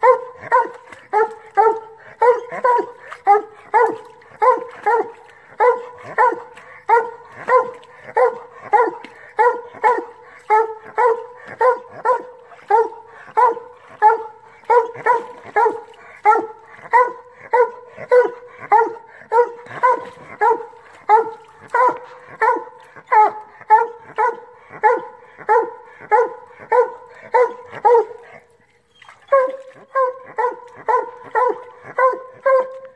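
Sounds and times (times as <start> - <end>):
hound barking: 0.0 - 32.9.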